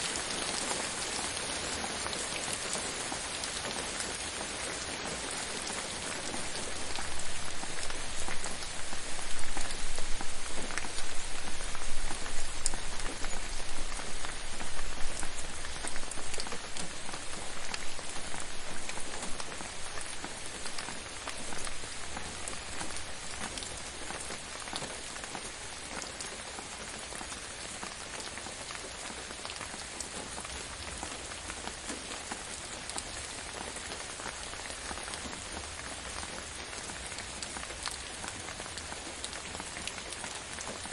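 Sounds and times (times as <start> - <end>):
rain drops ticking on a surface: 0.0 - 40.9.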